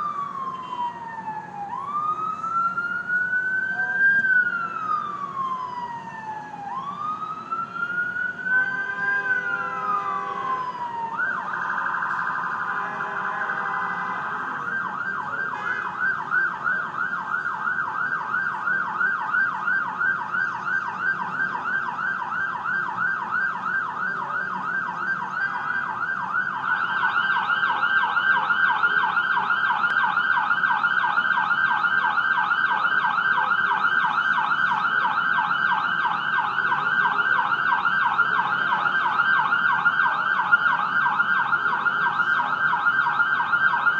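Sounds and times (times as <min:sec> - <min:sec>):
ambulance siren wailing and yelping: 0:00.0 - 0:43.9.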